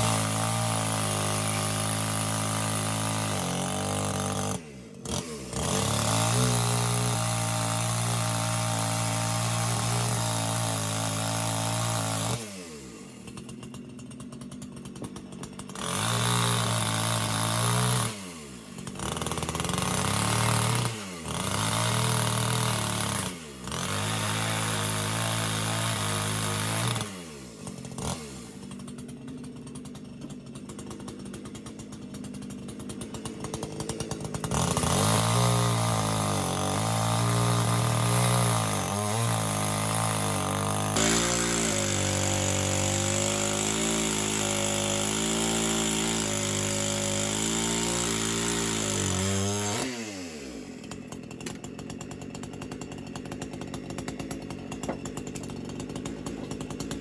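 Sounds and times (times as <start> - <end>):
chainsaw engine revving and idling: 0.0 - 57.0.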